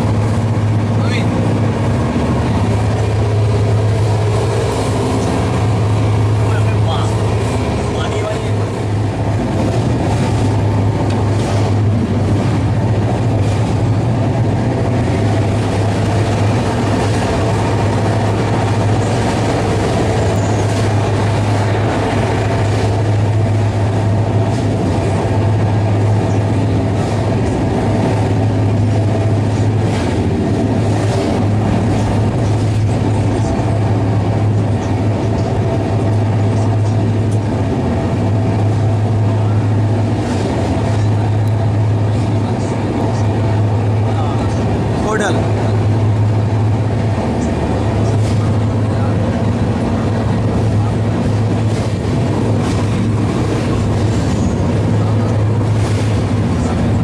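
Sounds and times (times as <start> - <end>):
deep steady hum: 0.0 - 57.0
train wheels rumbling on rail: 0.0 - 57.0.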